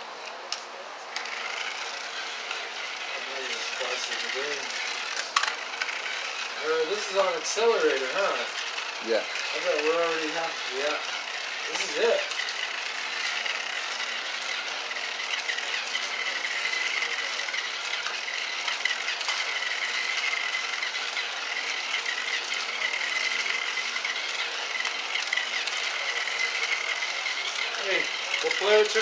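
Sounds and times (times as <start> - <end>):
toy car motor whine: 1.1 - 29.0
wheels rattling over plastic track: 1.1 - 29.0.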